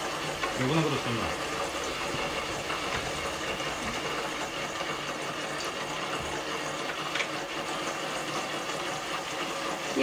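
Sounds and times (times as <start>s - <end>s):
water running down a chute: 0.0s - 10.0s.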